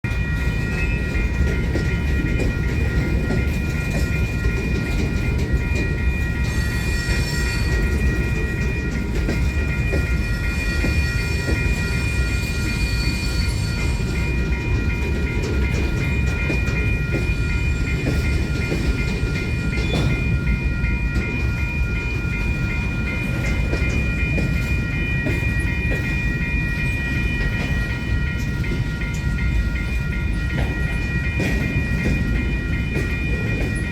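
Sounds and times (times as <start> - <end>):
freight train rumbling: 0.0 - 33.9
high ringing tones: 0.1 - 33.9
wheels clicking on rails: 0.1 - 33.9.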